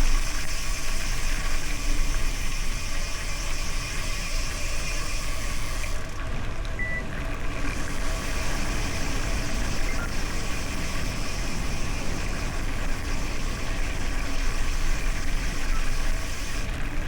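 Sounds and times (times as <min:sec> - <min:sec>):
bike tyres rolling on road: 0:00.0 - 0:17.0
wind buffeting microphone: 0:01.5 - 0:17.0.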